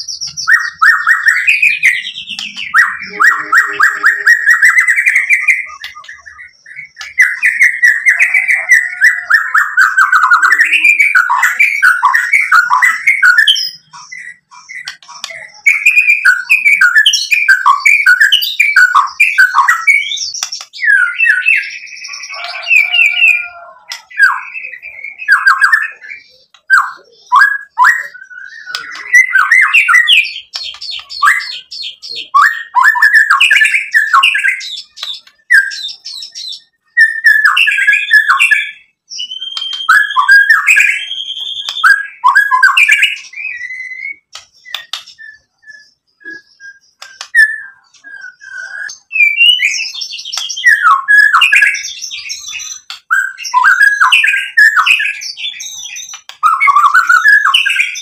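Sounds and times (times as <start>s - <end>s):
bird singing whistled phrases: 0.0s - 58.0s.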